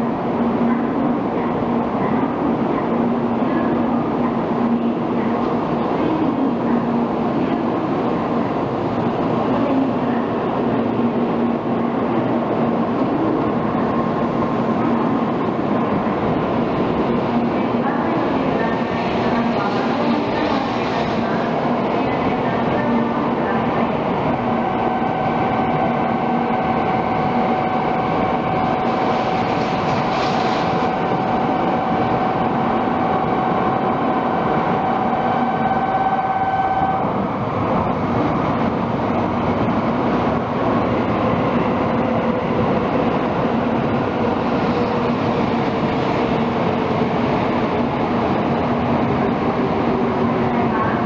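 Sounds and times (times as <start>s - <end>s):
train rail noise rushing: 0.0s - 51.0s.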